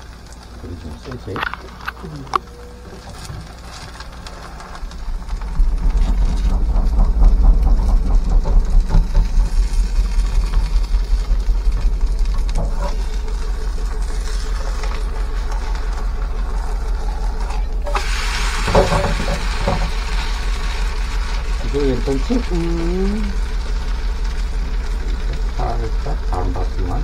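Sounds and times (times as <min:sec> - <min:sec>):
potato pancake frying in pan: 0:00.0 - 0:27.0
steady low rumble: 0:00.0 - 0:27.0.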